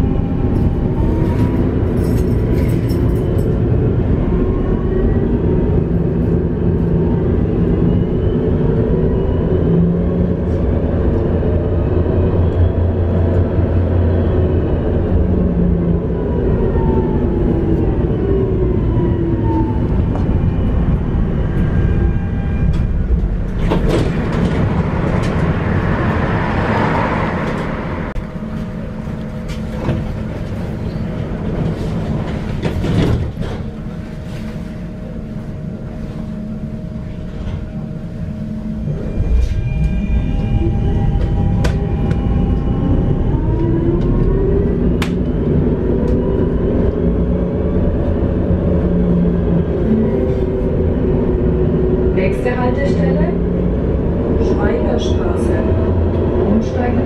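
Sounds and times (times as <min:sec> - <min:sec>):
tram motors whining: 0:00.0 - 0:57.0
tram rolling rumble: 0:00.0 - 0:57.0.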